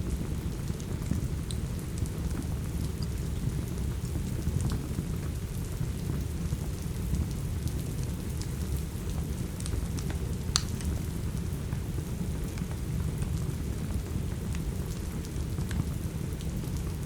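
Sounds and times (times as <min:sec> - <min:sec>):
steady rain: 0:00.0 - 0:17.0
wood fire crackling: 0:00.1 - 0:17.0.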